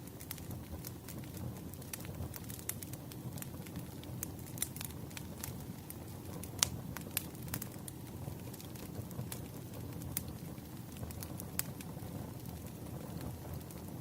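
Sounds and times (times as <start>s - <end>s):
campfire flames rumbling: 0.0s - 14.0s
fire crackling and popping: 0.0s - 14.0s.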